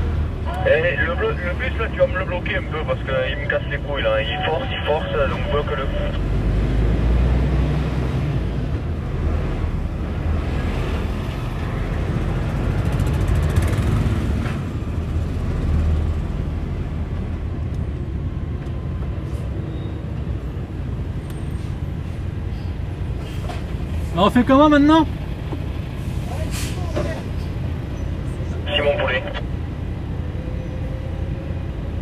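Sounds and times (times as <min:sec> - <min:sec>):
diesel engine low rumble: 0:00.0 - 0:32.0
tyre and road noise: 0:00.0 - 0:32.0.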